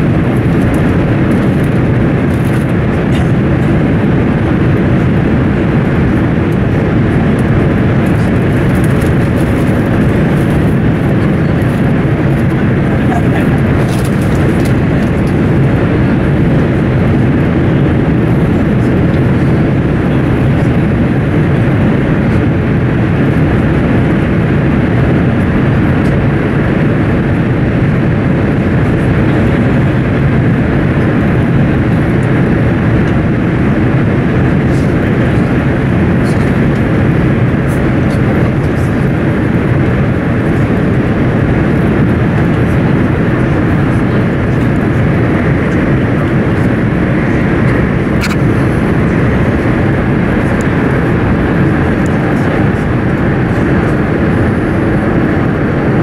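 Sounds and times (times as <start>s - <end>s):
train running in tunnel: 0.0s - 56.0s.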